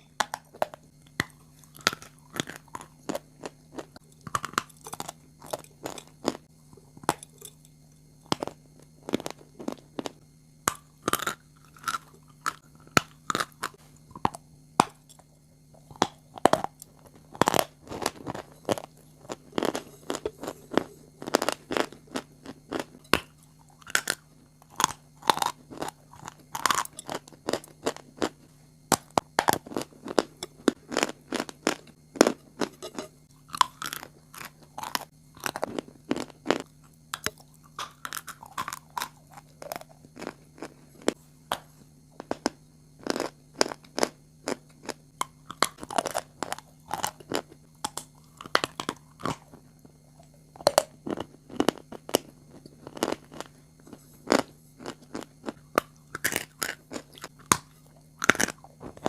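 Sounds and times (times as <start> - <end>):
crunchy food chewing: 0.0 - 59.0.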